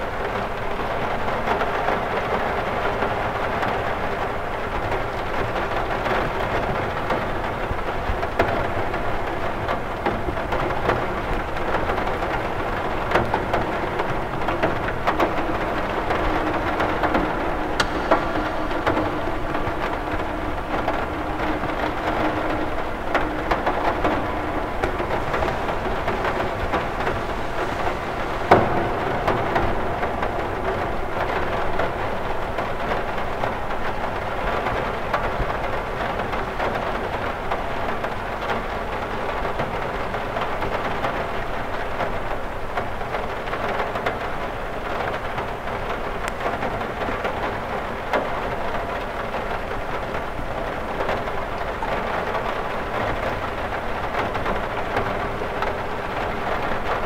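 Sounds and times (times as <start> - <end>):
rain on a window: 0.0 - 57.0
raindrop ticks: 0.0 - 57.0.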